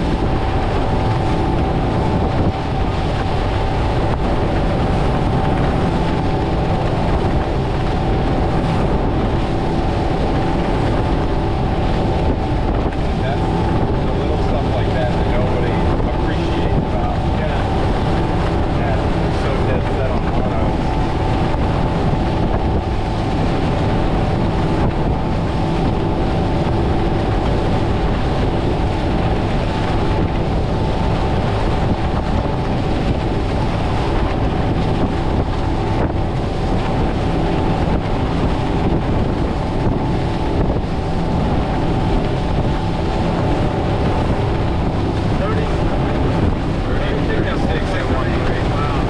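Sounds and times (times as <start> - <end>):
outboard engines droning: 0.0 - 49.0
water rushing past hull: 0.0 - 49.0
wind buffeting microphone: 0.0 - 49.0.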